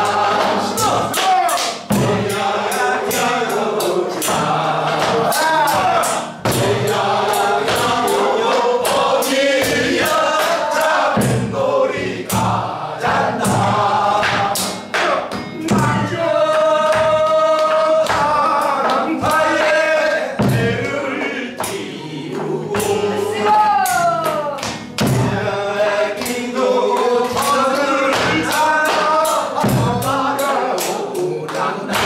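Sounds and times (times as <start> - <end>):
men and women singing in chorus: 0.0 - 32.0
sticks beating barrel drum: 0.0 - 32.0.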